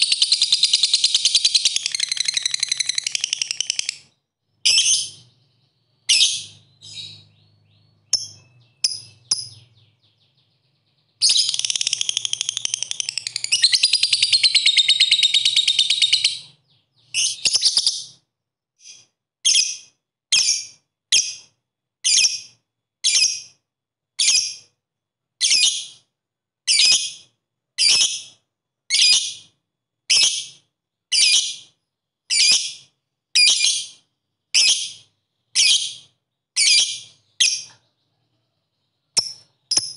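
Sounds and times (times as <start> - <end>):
lovebird chirping and trilling: 0.0 - 18.2, 18.8 - 23.6, 24.2 - 24.7, 25.4 - 26.1, 26.7 - 39.9.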